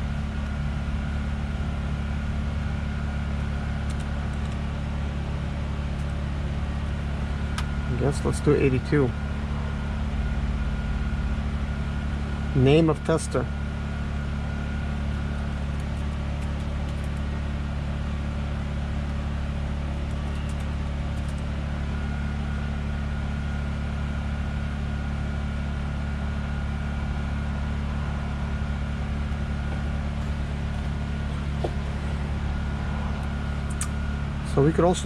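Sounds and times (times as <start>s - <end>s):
van engine idling: 0.0s - 35.0s.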